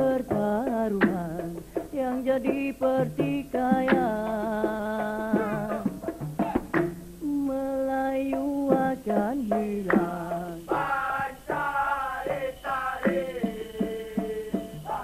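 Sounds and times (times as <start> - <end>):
man singing with vibrato: 0.0 - 6.7, 7.3 - 15.0
percussion strikes: 0.0 - 15.0.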